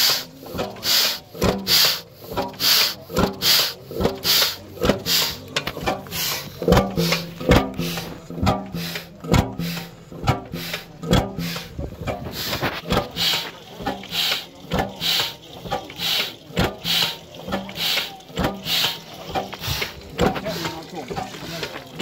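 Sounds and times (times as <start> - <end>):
engine knocking with a hiss: 0.0 - 22.0.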